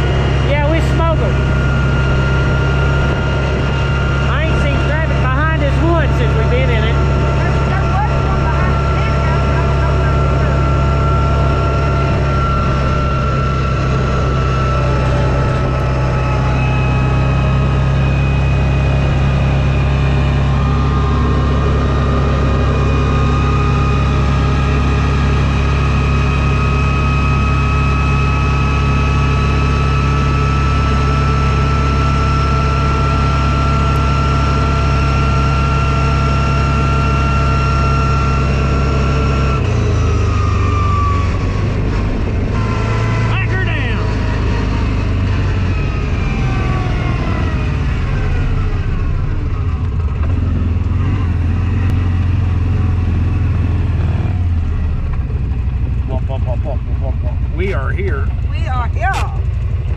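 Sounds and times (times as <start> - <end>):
drivetrain whine: 0.0 - 59.9
vehicle engine drone: 0.0 - 59.9.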